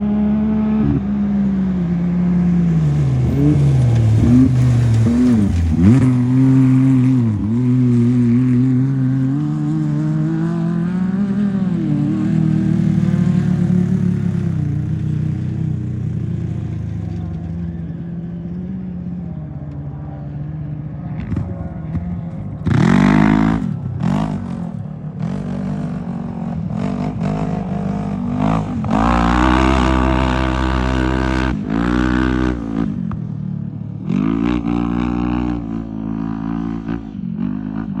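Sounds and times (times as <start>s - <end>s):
engines revving and accelerating: 0.0s - 38.0s.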